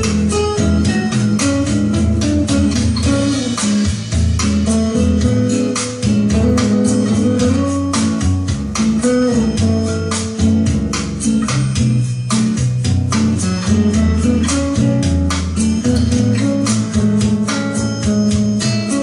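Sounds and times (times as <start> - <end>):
instrumental music with guitar and bass: 0.0 - 19.0.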